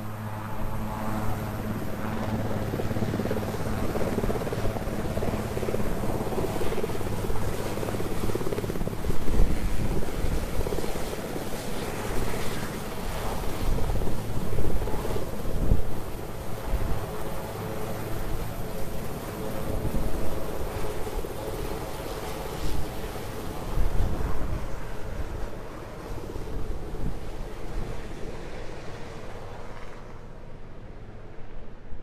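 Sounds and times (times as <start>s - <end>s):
helicopter engines and rotor drone: 0.0s - 32.0s.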